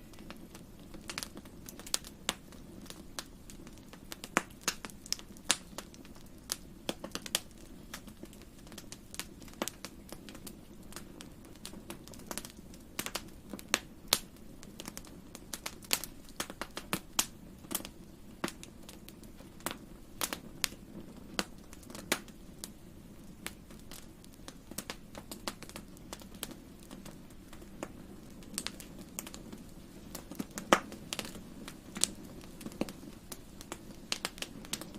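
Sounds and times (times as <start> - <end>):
fireplace fire crackling: 0.0 - 34.9.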